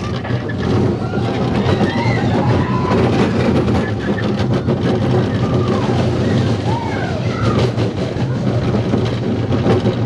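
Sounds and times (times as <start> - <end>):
roller coaster wheels rumbling: 0.0 - 10.0.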